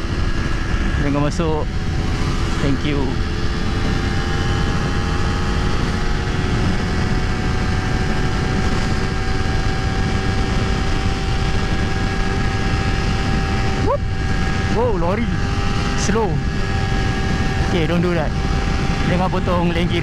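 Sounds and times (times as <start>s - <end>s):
motorcycle engine at full throttle: 0.0s - 20.0s
wind rushing on microphone: 0.0s - 20.0s.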